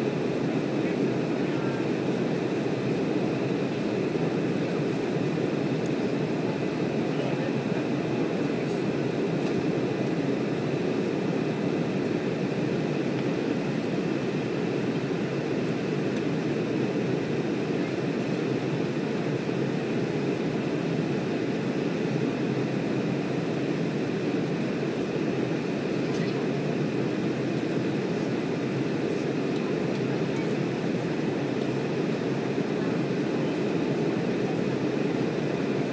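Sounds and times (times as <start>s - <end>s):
jet airliner cabin noise: 0.0s - 35.9s.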